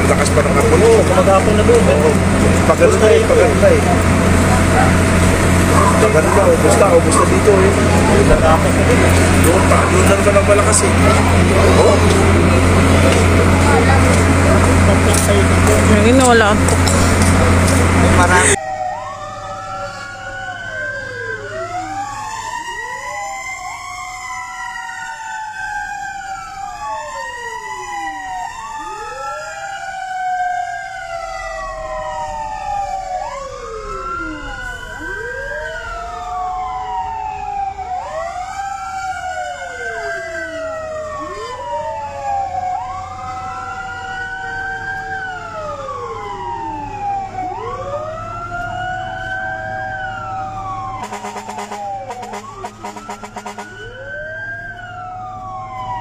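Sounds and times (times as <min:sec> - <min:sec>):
fire truck sirens wailing: 0:00.0 - 0:56.0
low rumble of engines: 0:00.0 - 0:56.0.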